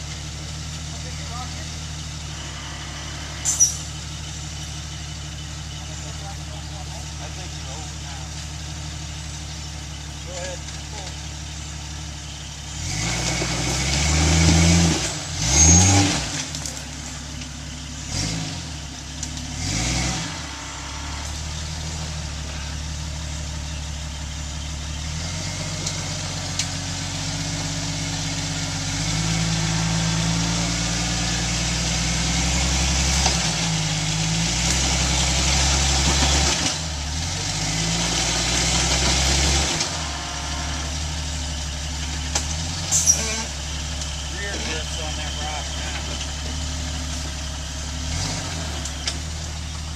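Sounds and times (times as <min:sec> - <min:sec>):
car engine revving under load: 0:00.0 - 0:49.9.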